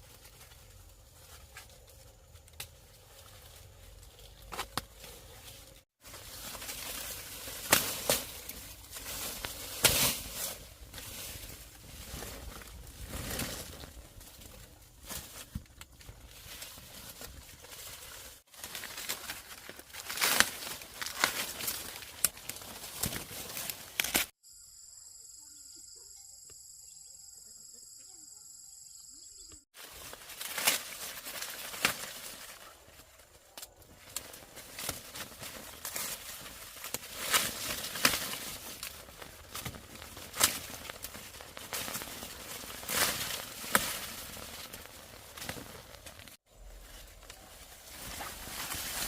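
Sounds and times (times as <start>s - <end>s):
rustling and crackling: 0.0s - 24.3s, 29.8s - 49.0s.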